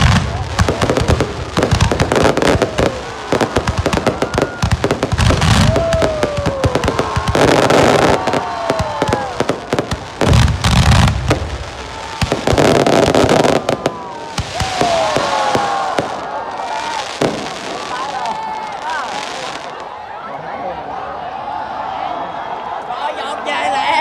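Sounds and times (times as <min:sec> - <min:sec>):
descending fireworks whistles: 0:00.0 - 0:19.8
fireworks bangs and crackling: 0:00.0 - 0:19.8
fireworks booms: 0:00.0 - 0:19.8.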